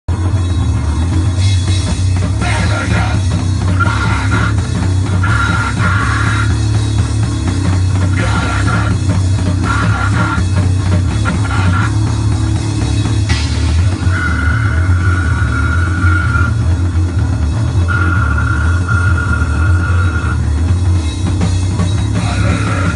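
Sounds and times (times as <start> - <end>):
distorted guitar noise: 0.1 - 22.9
steady low drone: 0.1 - 22.9.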